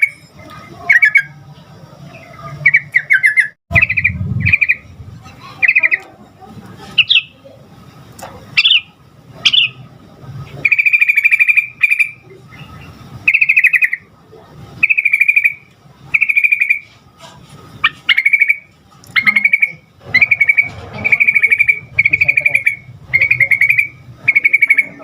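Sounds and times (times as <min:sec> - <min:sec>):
bird singing trilled phrases: 0:00.0 - 0:01.4, 0:02.0 - 0:06.2, 0:06.9 - 0:07.5, 0:08.5 - 0:09.9, 0:10.5 - 0:14.1, 0:14.8 - 0:17.0, 0:17.8 - 0:25.0.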